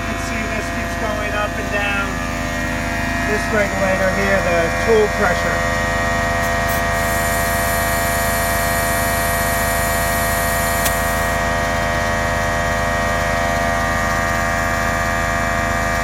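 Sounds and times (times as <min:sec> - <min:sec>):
electric air compressor whining: 0:00.0 - 0:16.0.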